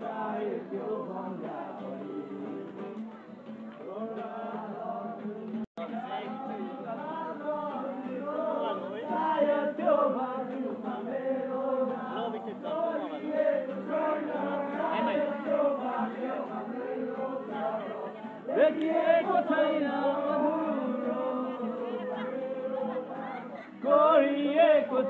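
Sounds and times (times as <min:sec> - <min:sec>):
group of people singing: 0:00.0 - 0:03.2, 0:03.8 - 0:25.0.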